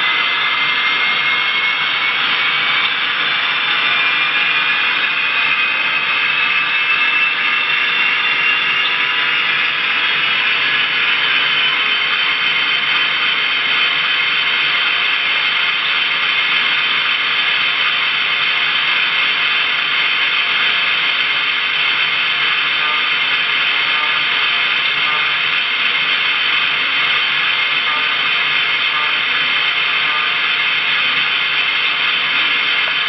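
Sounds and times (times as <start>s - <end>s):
thin steady tones: 0.0s - 33.0s
turbine rushing hiss: 0.0s - 33.0s.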